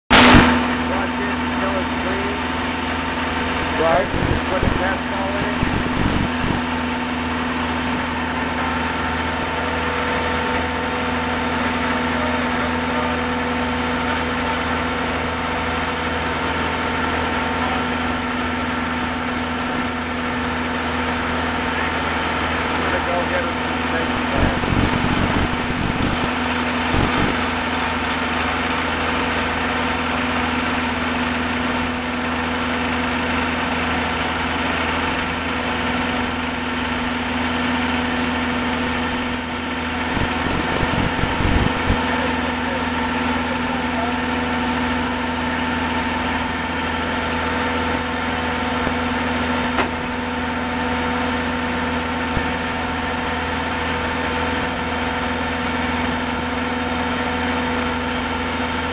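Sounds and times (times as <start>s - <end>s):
core drilling rig running: 0.1s - 58.9s.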